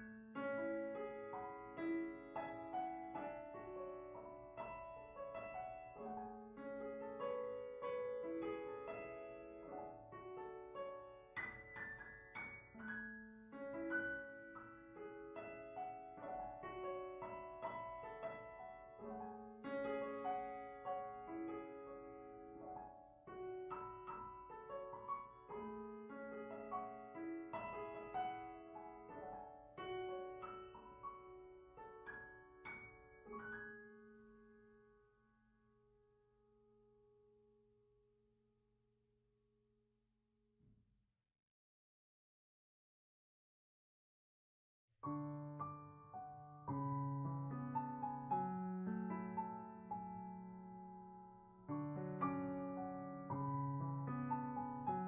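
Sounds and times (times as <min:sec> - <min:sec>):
calm piano music: 0:00.0 - 0:37.4, 0:45.0 - 0:55.0.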